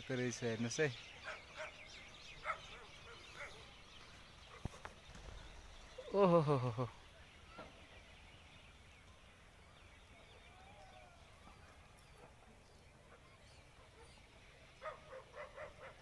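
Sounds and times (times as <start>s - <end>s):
pheasants calling: 0.0s - 16.0s.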